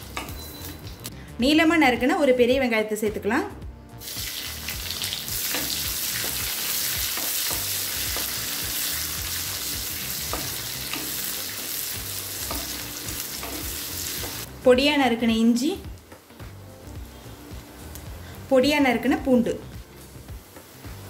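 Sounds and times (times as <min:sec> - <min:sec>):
onion sizzling in hot oil: 0:04.0 - 0:21.0.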